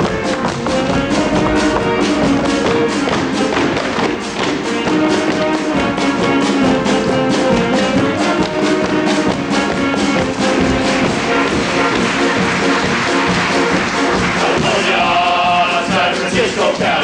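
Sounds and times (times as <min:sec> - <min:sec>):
lively instrumental music: 0:00.0 - 0:17.0.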